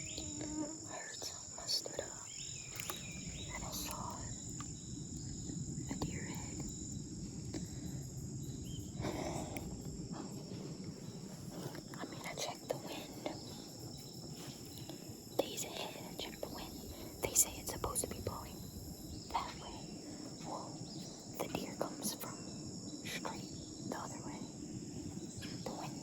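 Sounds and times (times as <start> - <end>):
faint clicks and rustles: 0.0 - 22.4
crickets and insects chirping: 0.0 - 26.0
low background rumble: 0.0 - 26.0.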